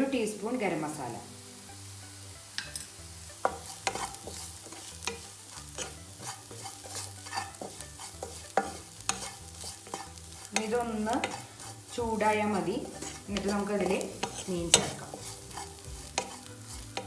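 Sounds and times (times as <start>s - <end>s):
faint sizzle of frying: 0.0s - 17.0s
spoon scraping and tapping pan: 2.6s - 17.0s.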